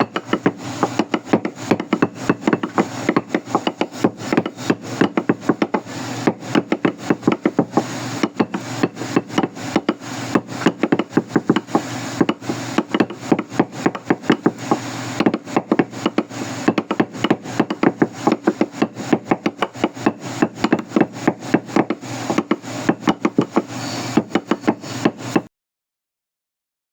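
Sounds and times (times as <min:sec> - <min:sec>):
hammer striking wood: 0:00.0 - 0:25.5.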